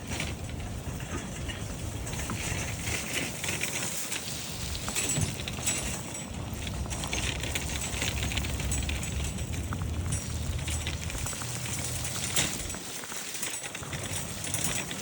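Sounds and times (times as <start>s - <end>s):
wind buffeting microphone: 0.0s - 13.0s
crackling patter of precipitation: 0.0s - 15.0s.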